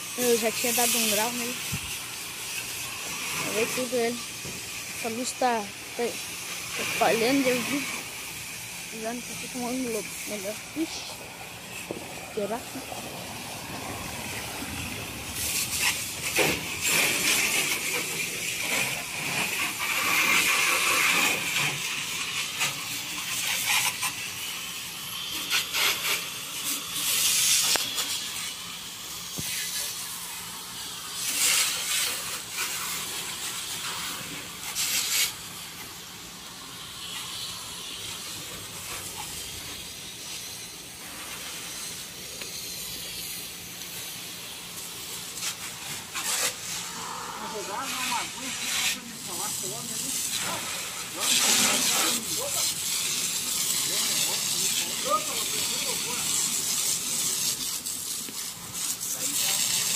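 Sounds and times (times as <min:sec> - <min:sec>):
water jet spraying on metal: 0:00.0 - 0:59.9.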